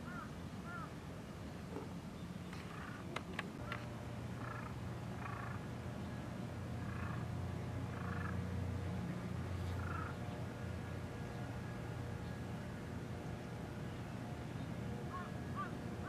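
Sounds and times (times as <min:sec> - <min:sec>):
distant bird calls: 0:00.0 - 0:16.0.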